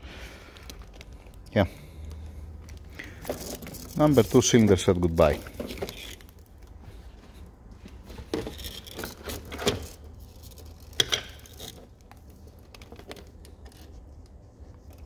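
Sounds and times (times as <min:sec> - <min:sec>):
camera cable handling rustles: 0:00.5 - 0:15.0.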